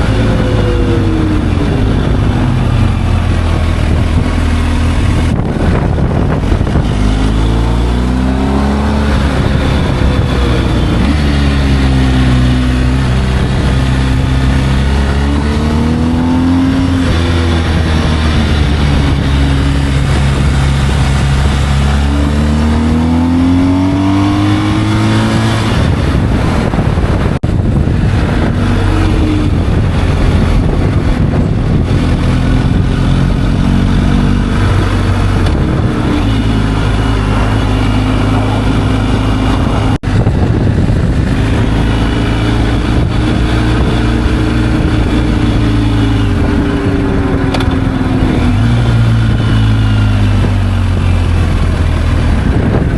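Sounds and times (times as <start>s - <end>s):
motorcycle engine revving: 0.0s - 52.9s
wind rush: 0.0s - 52.9s.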